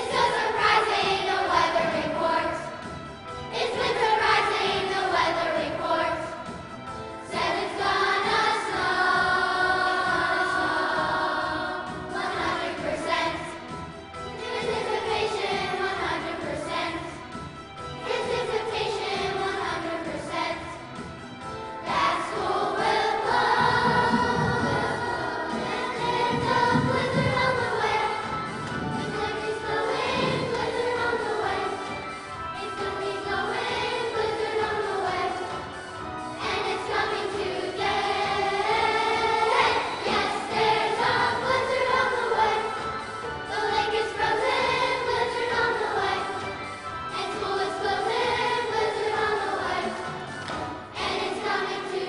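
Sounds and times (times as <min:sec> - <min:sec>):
children's choir singing: 0:00.0 - 0:52.0.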